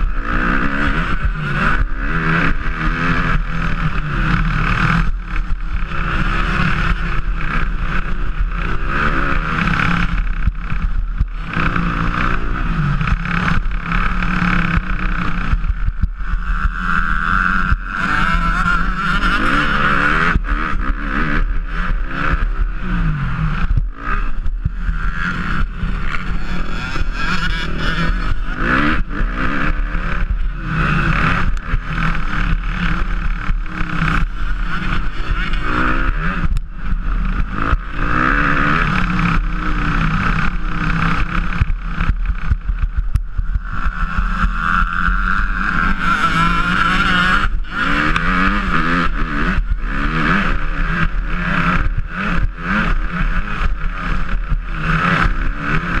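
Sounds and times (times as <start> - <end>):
motocross bike engine revving: 0.0 - 56.0
wind noise: 0.0 - 56.0.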